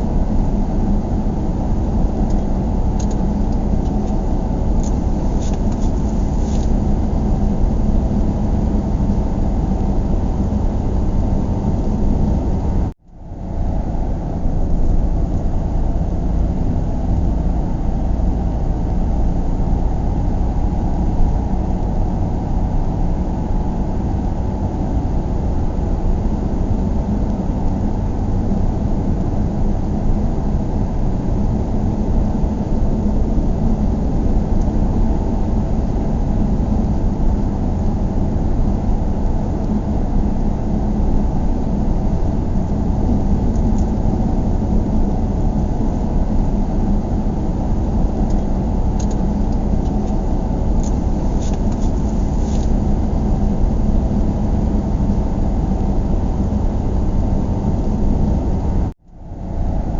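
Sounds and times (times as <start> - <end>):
car cabin road rumble: 0.0 - 59.9
steady hum: 0.0 - 59.9.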